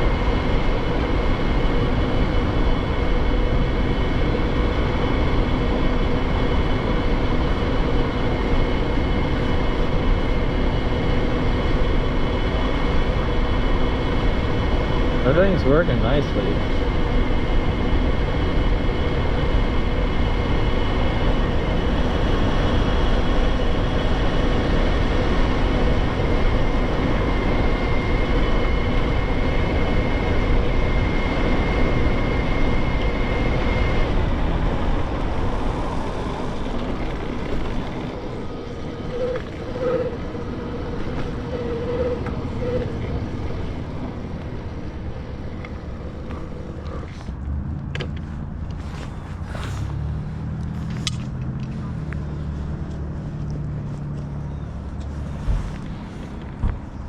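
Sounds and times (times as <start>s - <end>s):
electric motor whine: 0.0s - 47.4s
wind and tyre noise: 0.0s - 57.0s.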